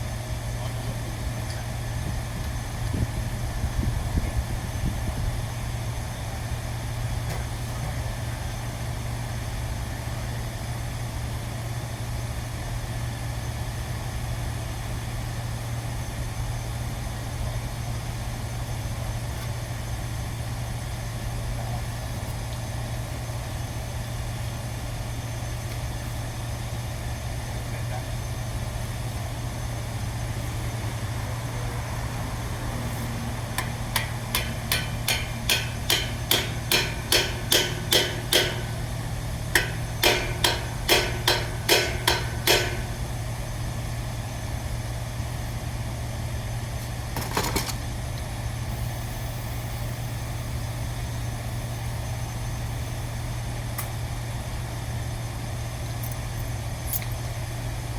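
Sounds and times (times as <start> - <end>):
low hum of running machinery: 0.0 - 57.9.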